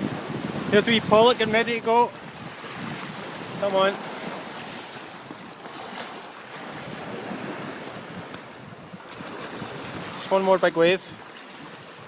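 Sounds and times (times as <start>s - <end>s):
sea waves washing on shore: 0.0s - 12.0s
wind on microphone: 0.0s - 12.0s.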